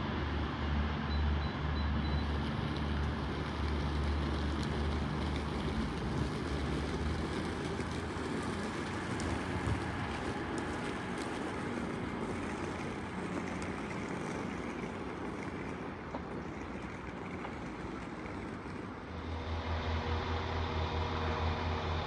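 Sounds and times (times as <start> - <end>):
train diesel engines droning: 0.0 - 22.0.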